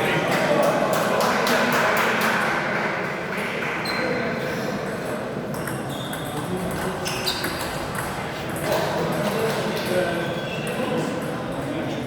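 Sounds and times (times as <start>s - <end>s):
murmuring voices in a hall: 0.0s - 12.0s.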